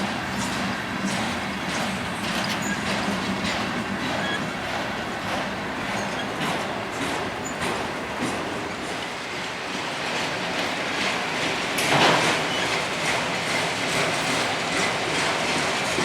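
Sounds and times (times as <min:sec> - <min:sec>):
rumble of train wheels: 0:00.0 - 0:16.0
wheels clacking over rail joints: 0:00.0 - 0:16.0.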